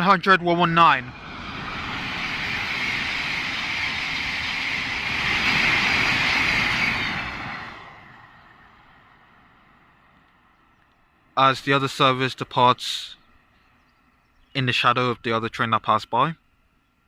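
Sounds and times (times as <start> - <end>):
train passing on rails: 0.0 - 15.3.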